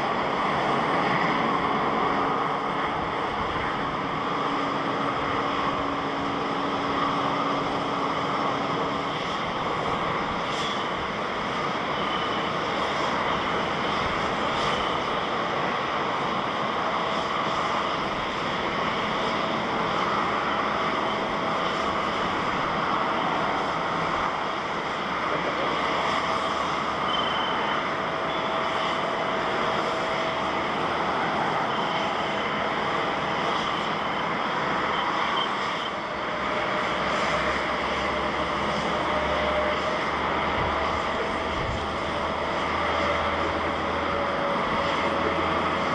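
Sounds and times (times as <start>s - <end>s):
faint engine whine: 0.0s - 45.9s
jet engines running: 0.0s - 45.9s.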